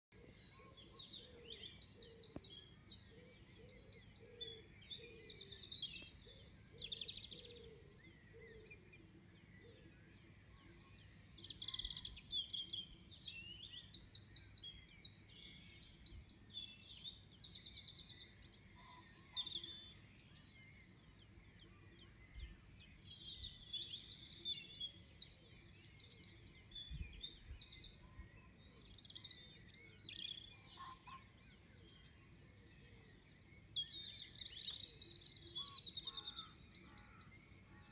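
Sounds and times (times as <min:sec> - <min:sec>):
background birdsong: 0:00.1 - 0:37.9
songbird singing trills: 0:00.1 - 0:37.9.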